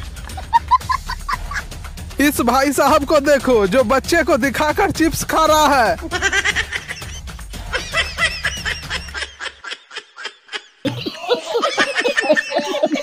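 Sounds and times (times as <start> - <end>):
music: 0.0 - 9.7, 10.9 - 13.0.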